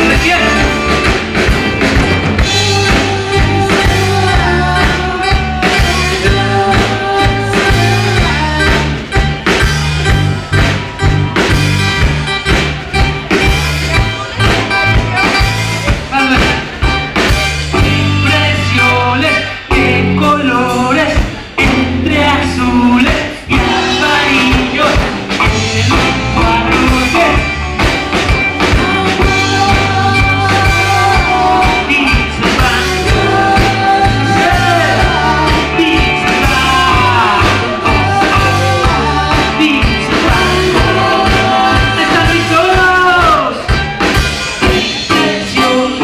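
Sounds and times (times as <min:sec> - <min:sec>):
person singing: 0:00.0 - 0:10.3, 0:16.1 - 0:46.0
live rock band playing: 0:00.0 - 0:46.0.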